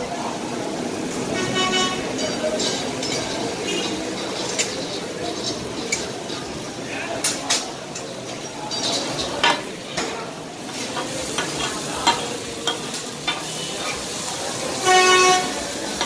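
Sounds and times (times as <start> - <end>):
food sizzling on griddle: 0.0 - 16.0
metal scrapers clacking on griddle: 1.4 - 16.0.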